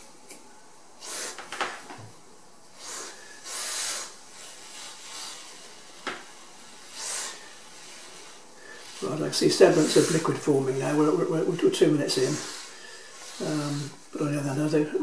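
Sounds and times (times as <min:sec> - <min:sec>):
aerosol spray hissing: 0:01.0 - 0:01.6, 0:02.6 - 0:14.9.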